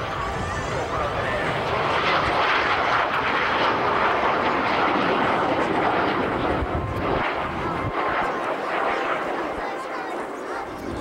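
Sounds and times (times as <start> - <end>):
jets flying past roaring: 0.0 - 11.0.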